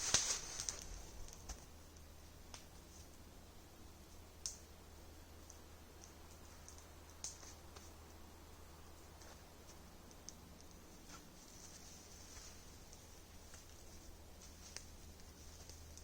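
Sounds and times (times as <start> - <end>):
campfire crackling and popping: 0.0 - 3.3, 4.0 - 16.0.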